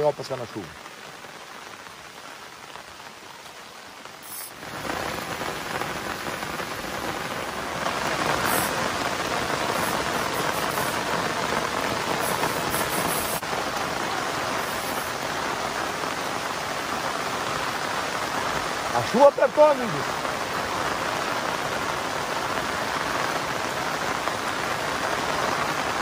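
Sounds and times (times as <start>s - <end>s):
heavy rain pouring on river: 0.0s - 26.0s.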